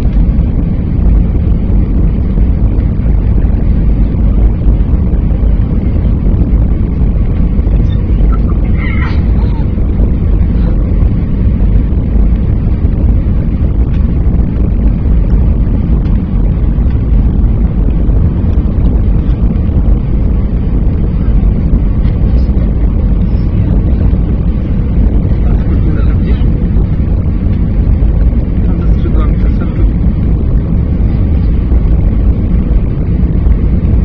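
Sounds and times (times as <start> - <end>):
jet engine cabin rumble: 0.0 - 34.0.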